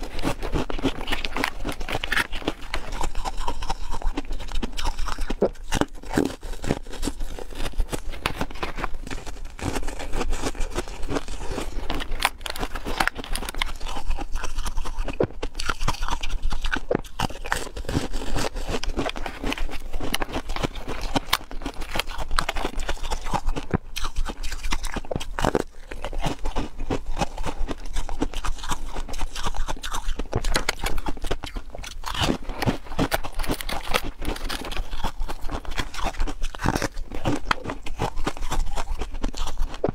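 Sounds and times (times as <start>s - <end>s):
crunching and chewing ice cream: 0.0s - 39.9s.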